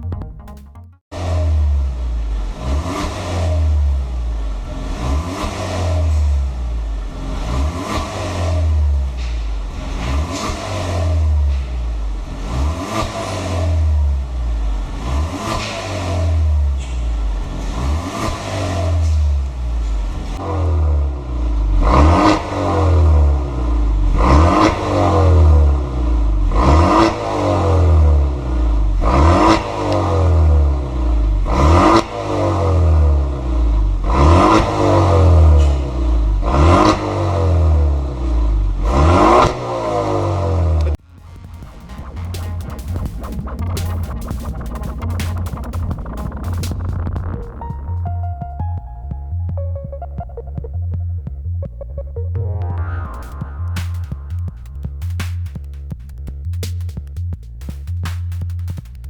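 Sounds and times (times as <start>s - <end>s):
car engine revving: 1.1s - 48.3s, 49.0s - 59.0s.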